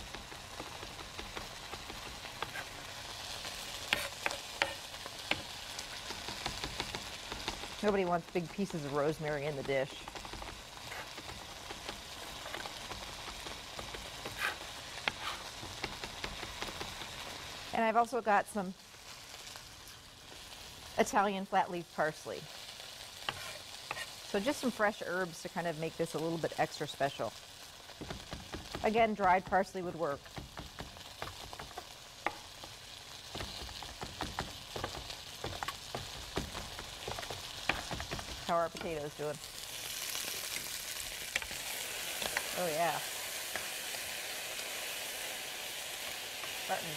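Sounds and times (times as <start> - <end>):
potatoes sizzling in oil: 0.0 - 46.9.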